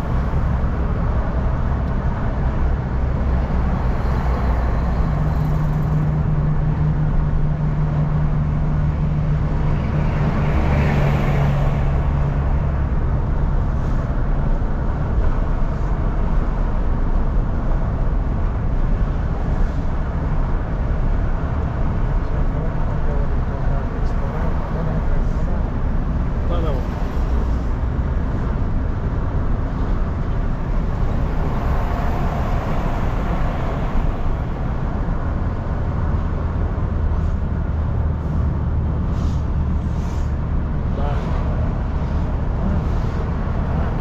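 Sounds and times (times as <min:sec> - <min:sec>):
car engine hum: 0:00.0 - 0:44.0.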